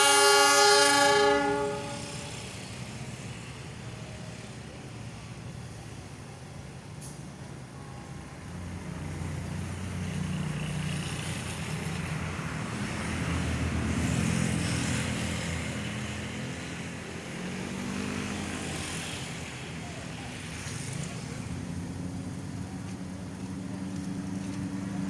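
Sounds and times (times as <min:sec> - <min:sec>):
diesel locomotive engine under load: 0:00.0 - 0:25.0.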